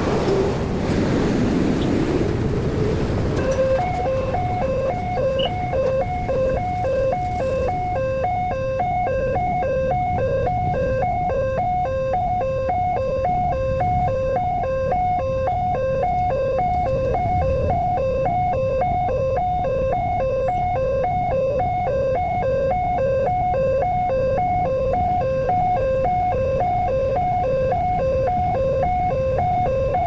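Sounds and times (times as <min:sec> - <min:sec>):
low rumble of vehicles: 0:00.0 - 0:30.0
level crossing two-tone alarm: 0:03.4 - 0:30.0.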